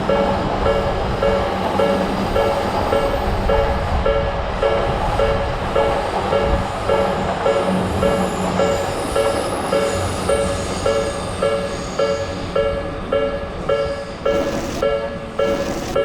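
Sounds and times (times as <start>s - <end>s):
electric train passing: 0.0s - 16.0s
railroad crossing alarm clanging: 0.0s - 16.0s.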